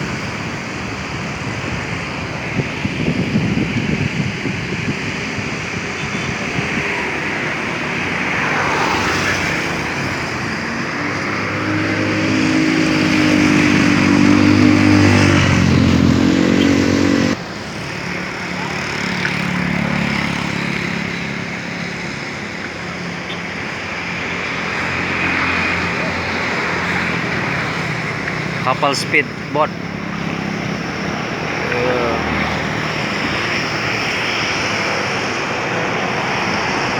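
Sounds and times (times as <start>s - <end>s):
motor engine droning hum: 0.0s - 36.9s.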